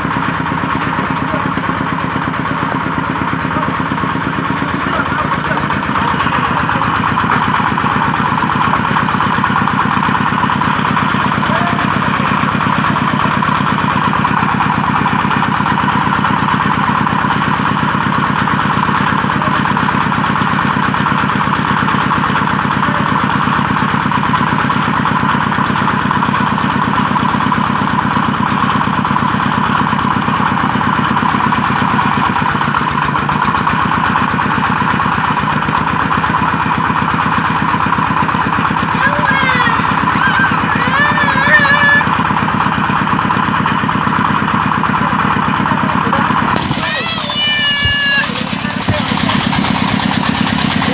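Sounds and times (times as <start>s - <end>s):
brick making machine running: 0.0s - 50.9s.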